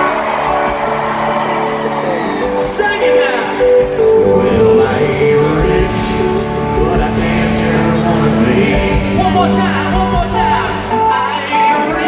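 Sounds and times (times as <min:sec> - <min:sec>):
live country band: 0:00.0 - 0:12.0
melody of held notes: 0:00.0 - 0:12.0.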